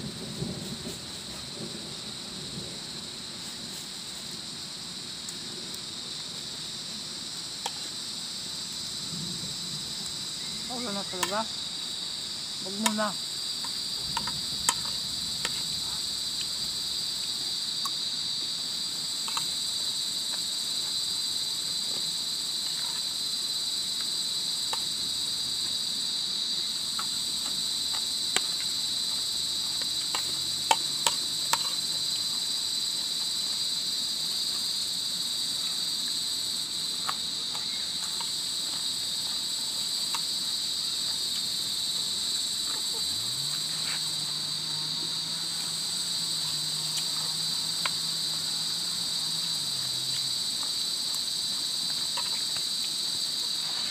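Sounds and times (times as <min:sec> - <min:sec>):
insect chorus chirring: 0:00.0 - 0:53.9.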